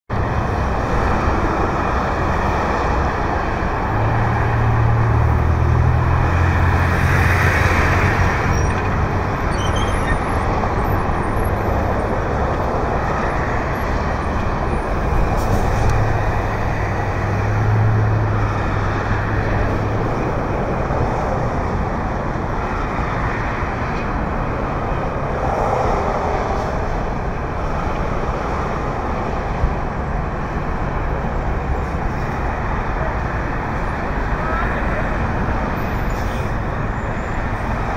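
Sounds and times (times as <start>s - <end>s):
road traffic noise: 0.1s - 37.9s.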